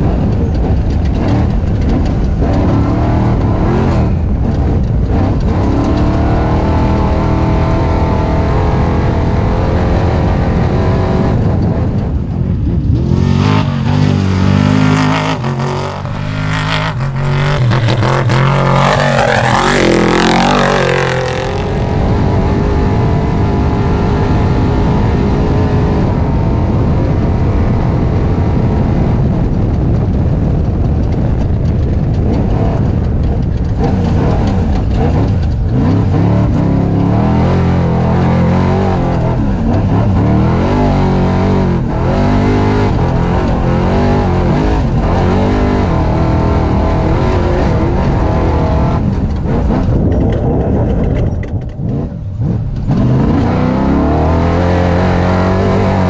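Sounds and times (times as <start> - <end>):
truck engine revving: 0.0 - 29.2, 29.8 - 56.0.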